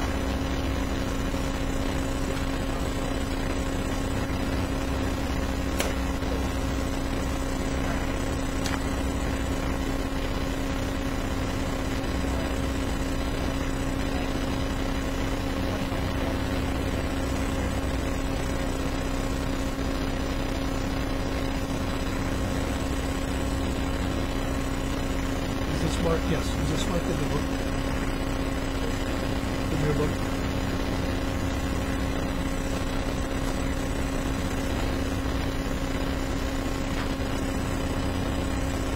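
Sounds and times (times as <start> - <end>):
constant hum: 0.0 - 38.9.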